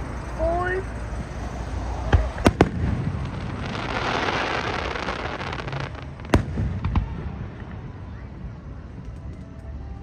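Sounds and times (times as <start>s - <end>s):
fireworks banging: 0.0s - 8.0s
fireworks crackling: 0.0s - 10.0s.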